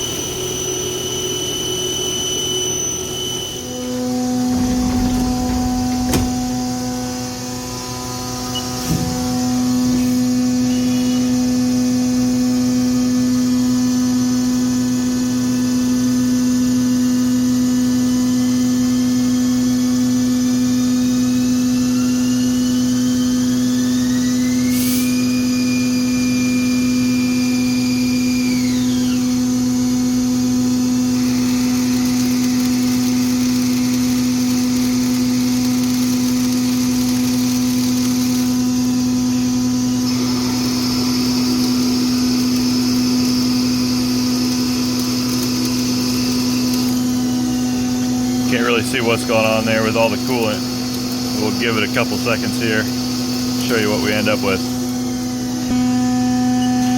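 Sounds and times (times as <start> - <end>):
lathe hum and whine: 0.0 - 56.9.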